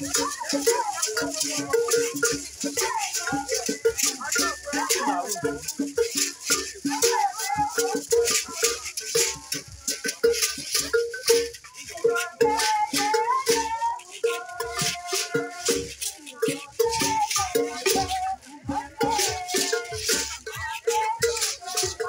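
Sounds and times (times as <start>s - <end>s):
gourd rattles shaken: 0.0s - 22.0s
repeating low beat: 0.0s - 22.0s
voices singing: 0.0s - 22.0s.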